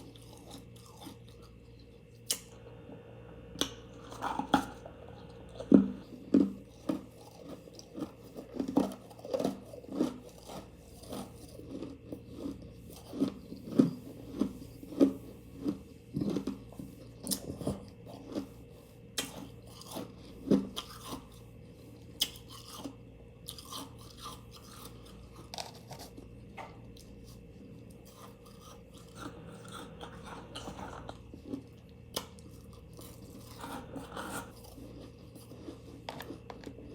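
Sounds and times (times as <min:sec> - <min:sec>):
person chewing ice crunches: 0:00.0 - 0:02.6, 0:03.6 - 0:36.9.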